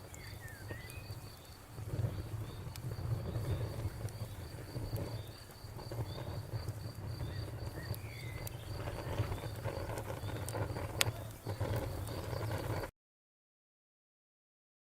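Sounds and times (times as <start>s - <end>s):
campfire crackling and popping: 0.0s - 12.9s
crickets chirping: 0.0s - 12.9s.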